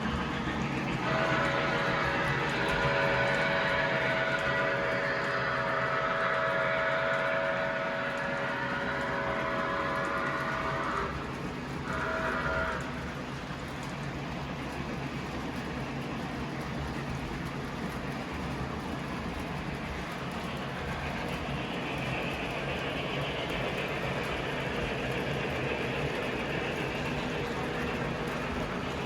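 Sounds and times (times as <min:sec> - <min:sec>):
model train running on track: 0:00.0 - 0:29.0.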